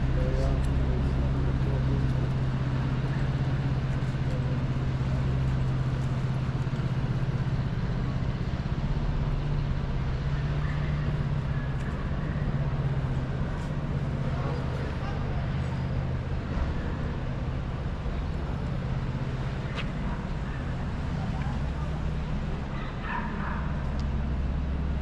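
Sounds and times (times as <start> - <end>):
city street noise: 0.0 - 25.0
vehicle engine humming: 0.0 - 25.0.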